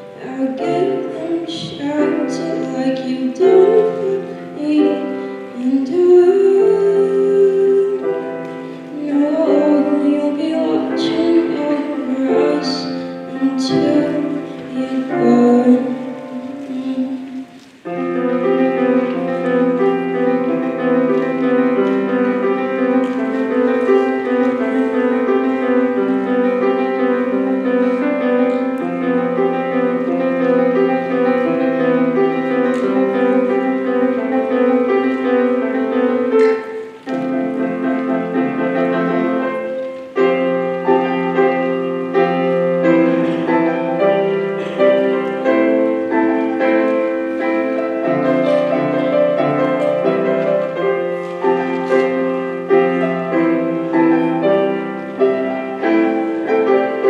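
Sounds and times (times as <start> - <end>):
piano playing: 0.0 - 57.0.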